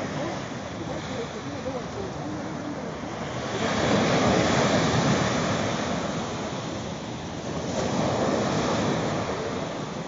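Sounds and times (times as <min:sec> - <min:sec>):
surf washing up a sandy beach: 0:00.0 - 0:10.0.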